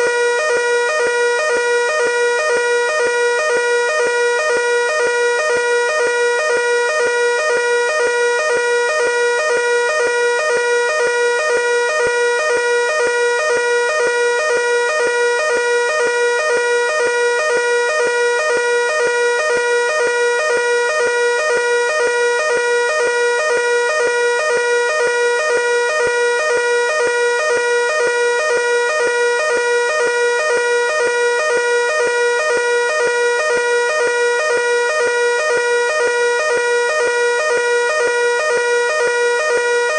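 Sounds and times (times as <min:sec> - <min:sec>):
pulsing fire alarm tone: 0:00.0 - 0:39.9.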